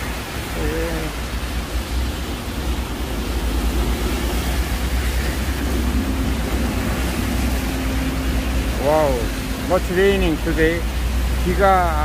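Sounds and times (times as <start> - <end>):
faint steady hum: 0.0 - 12.0
heavy rain hissing: 0.0 - 12.0
low rumble: 0.0 - 12.0.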